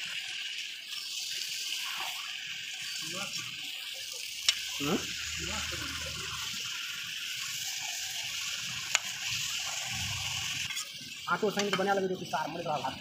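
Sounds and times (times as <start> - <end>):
chicken and onions sizzling: 0.0 - 13.0.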